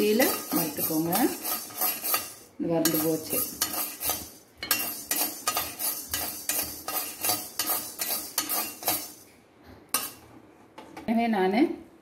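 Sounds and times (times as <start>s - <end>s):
steel spoon scraping a pan: 0.0s - 9.3s, 9.9s - 10.3s.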